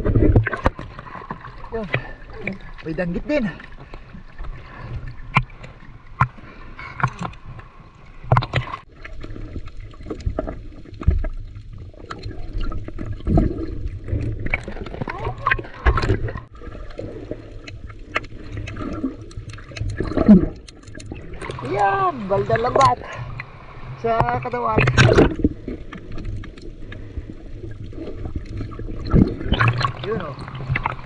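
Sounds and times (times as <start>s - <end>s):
water sloshing around boat: 0.0s - 31.0s.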